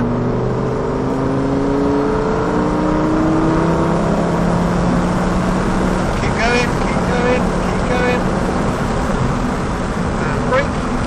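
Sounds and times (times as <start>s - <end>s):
car engine accelerating: 0.0s - 11.0s
road and wind noise: 0.0s - 11.0s.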